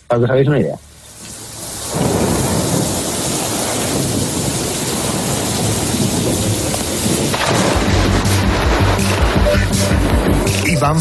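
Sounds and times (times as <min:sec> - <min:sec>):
heavy rain rush: 0:00.7 - 0:11.0
low thunder rumble: 0:01.3 - 0:11.0.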